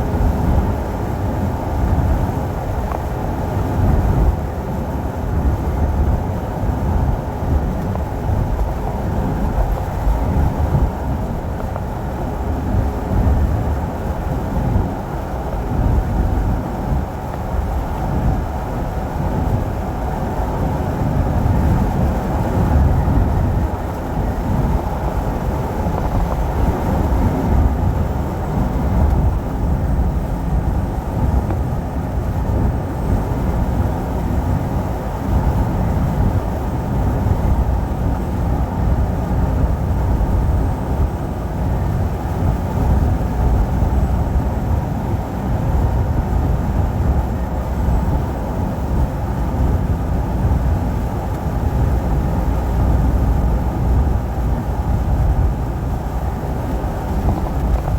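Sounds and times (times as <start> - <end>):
truck driving on road: 0.0 - 57.9.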